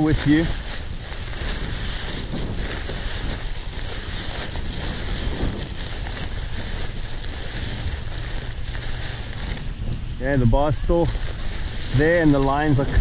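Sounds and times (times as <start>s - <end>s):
nylon kite canopy crinkling: 0.0s - 13.0s
wind buffeting microphone: 0.0s - 13.0s.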